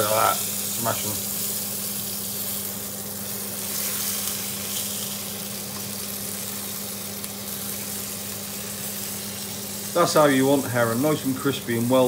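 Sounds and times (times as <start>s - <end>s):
extractor fan hum: 0.0s - 12.0s
fish sizzling in hot oil: 0.0s - 12.0s
spatula turning fish: 1.3s - 12.0s.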